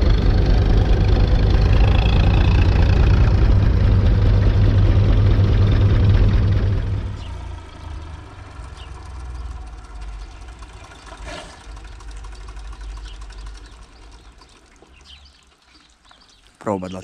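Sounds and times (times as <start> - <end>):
tractor diesel engine running: 0.0 - 15.6.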